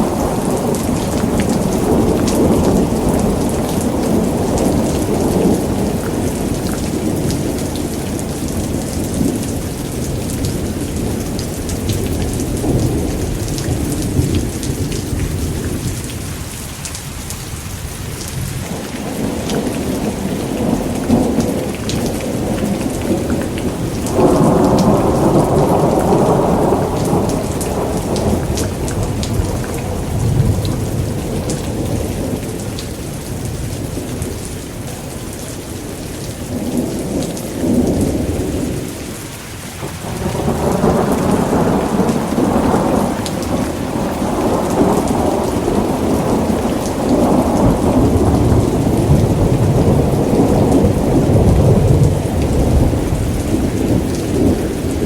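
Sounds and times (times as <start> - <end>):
rolling thunder: 0.0 - 16.3, 18.4 - 35.1, 39.8 - 55.0
heavy rain: 0.0 - 55.0.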